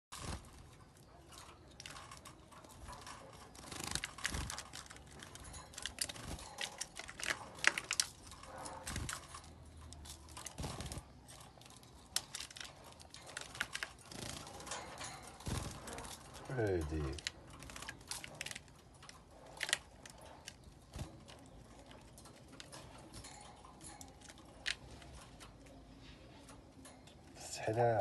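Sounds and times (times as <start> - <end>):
canaries moving in wire cage: 0.1 - 28.0.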